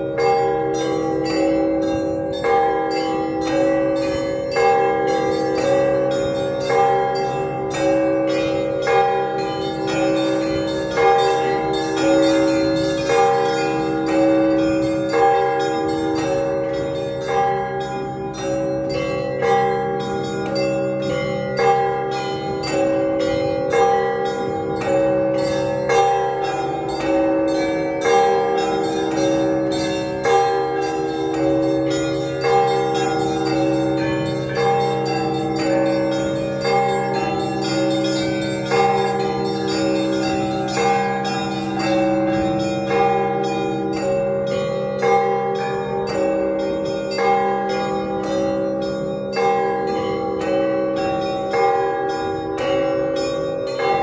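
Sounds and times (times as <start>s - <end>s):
deep church bells: 0.0s - 54.0s
small church bells ringing fast: 0.0s - 54.0s.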